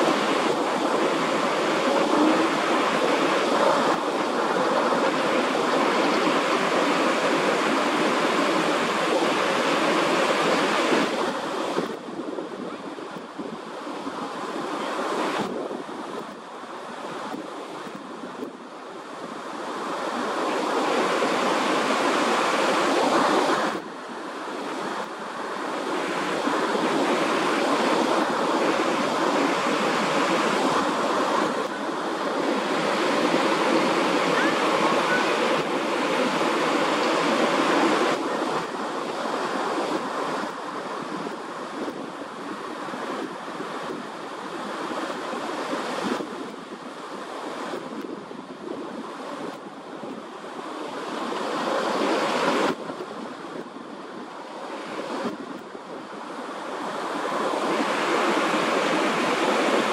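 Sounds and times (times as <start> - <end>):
surf rushing: 0.0 - 59.9
wind: 0.0 - 59.9.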